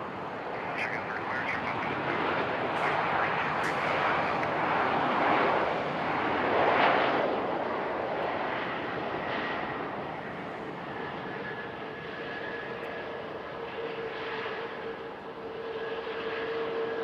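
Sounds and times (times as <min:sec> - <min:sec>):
jet engine rush: 0:00.0 - 0:17.0
two-tone engine whine: 0:00.0 - 0:17.0.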